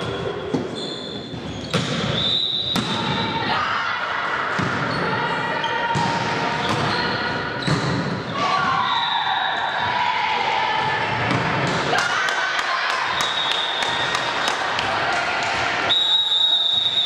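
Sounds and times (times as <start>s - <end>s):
players' voices echoing: 0.0s - 15.9s.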